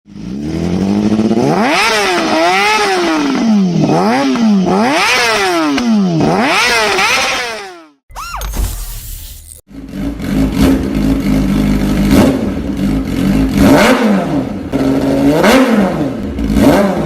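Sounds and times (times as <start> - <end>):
motorcycle engine revving: 0.1 - 8.0, 9.6 - 17.0.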